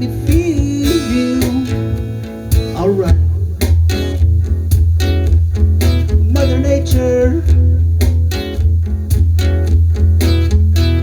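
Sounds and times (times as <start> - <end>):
steady bass line: 0.0 - 11.0
strummed guitar chords: 0.0 - 11.0.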